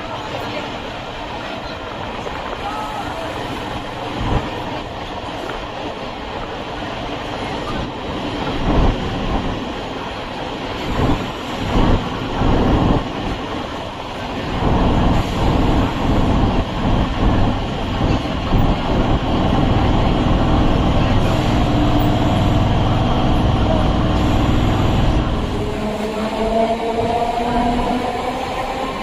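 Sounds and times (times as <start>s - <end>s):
steady train whine: 0.0s - 29.0s
train wheels rattling on track: 0.0s - 29.0s.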